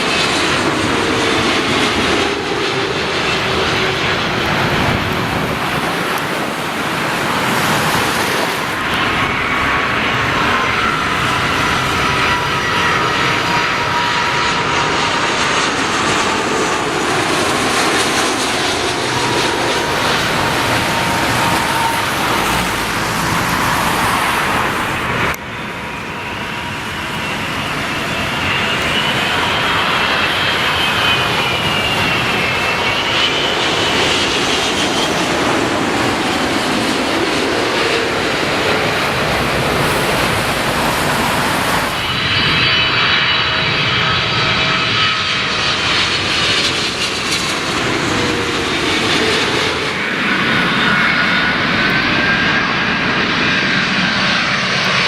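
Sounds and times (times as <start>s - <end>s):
jet engines roaring and whining: 0.0s - 55.0s.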